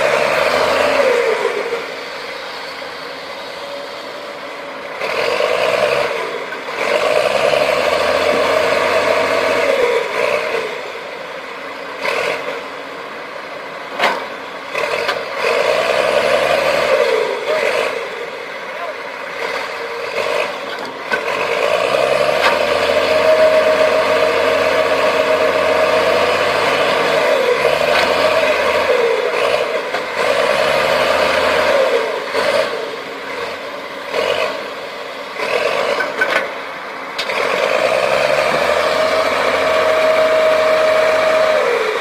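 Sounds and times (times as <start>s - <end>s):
diesel engines revving hard: 0.0s - 42.0s.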